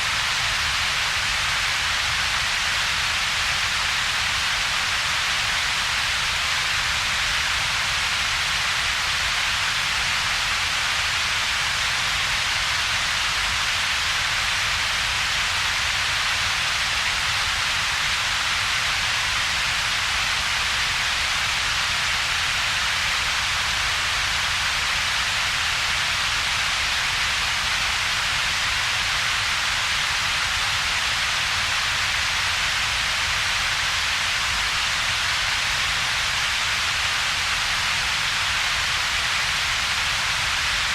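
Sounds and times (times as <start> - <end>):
steady synthetic hiss: 0.0 - 40.9.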